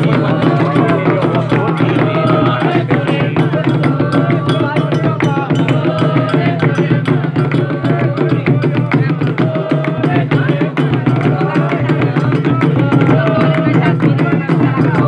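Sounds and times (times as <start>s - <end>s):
hand drums fast rhythm: 0.0s - 15.0s
voices singing: 0.0s - 15.0s.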